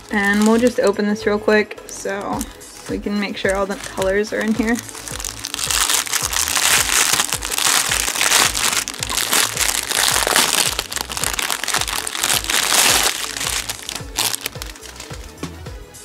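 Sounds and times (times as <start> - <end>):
plastic bag crinkling: 0.0 - 1.0, 3.4 - 15.3.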